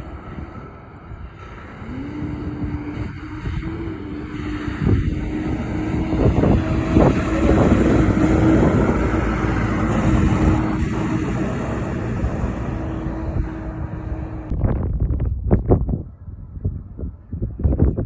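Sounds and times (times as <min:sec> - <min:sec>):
truck driving past: 0:00.0 - 0:14.8.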